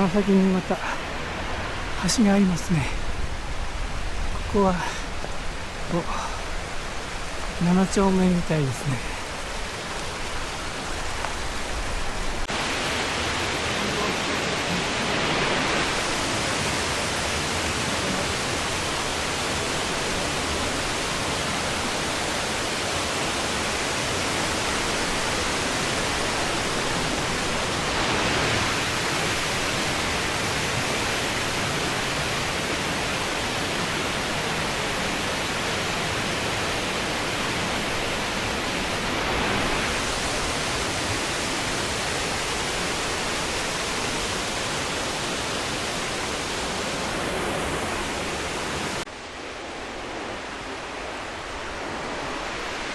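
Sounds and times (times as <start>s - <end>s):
water rushing down a stream: 0.0s - 52.9s.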